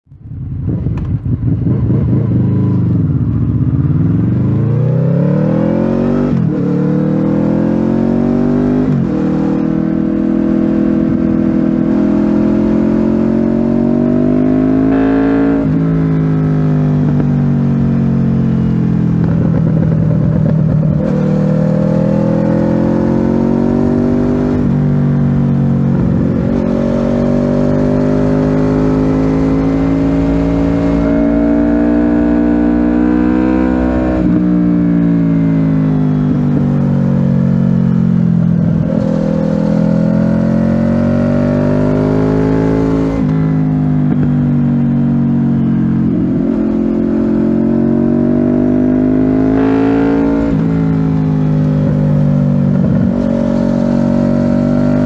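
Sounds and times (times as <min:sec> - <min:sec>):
motorcycle engine accelerating: 0:00.1 - 0:55.0.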